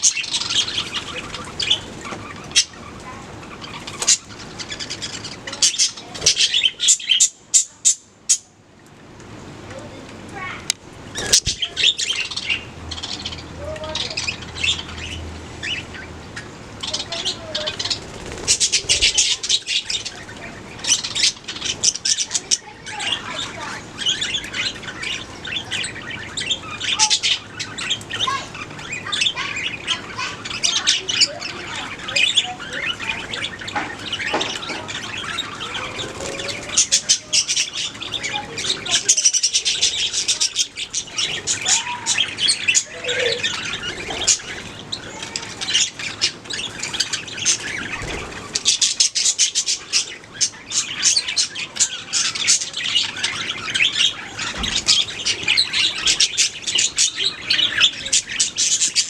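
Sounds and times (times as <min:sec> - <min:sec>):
budgerigars chirping and warbling: 0:00.0 - 0:08.6, 0:09.8 - 0:59.0.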